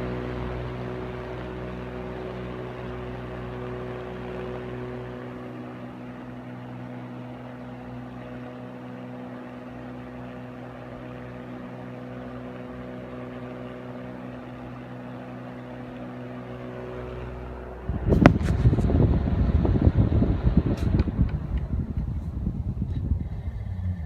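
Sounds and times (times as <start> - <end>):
ventilation fan running: 0.0 - 24.0.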